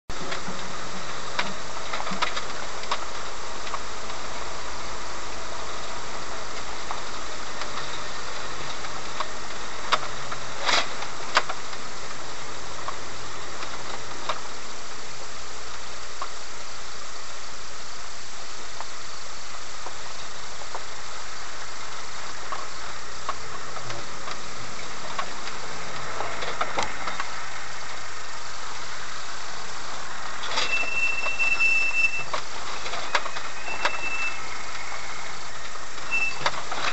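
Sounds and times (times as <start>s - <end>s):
cab rattles: 0.1s - 16.3s, 19.6s - 36.9s
vehicle engine and road noise: 0.1s - 36.9s.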